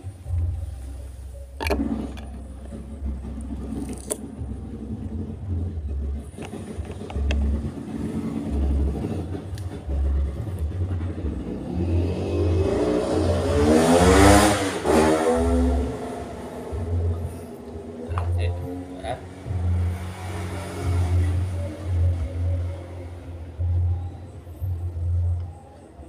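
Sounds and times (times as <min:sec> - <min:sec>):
low pulsing hum: 0:00.0 - 0:13.6, 0:15.4 - 0:26.0
engine revving: 0:01.6 - 0:25.6.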